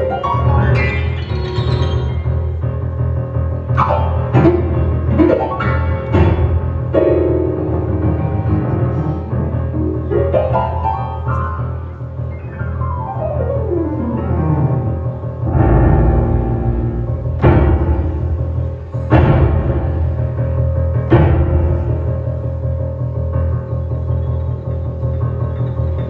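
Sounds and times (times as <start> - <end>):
grand piano playing: 0.0 - 26.0.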